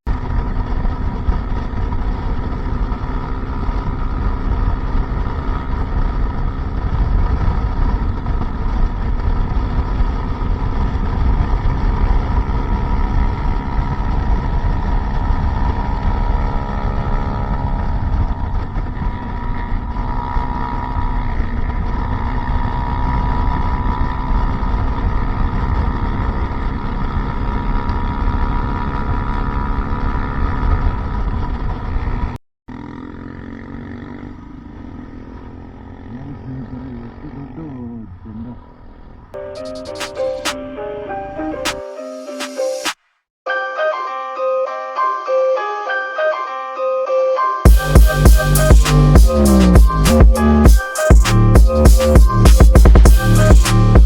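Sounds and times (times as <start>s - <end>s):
motorcycle engine running: 0.1s - 39.4s, 47.7s - 54.0s.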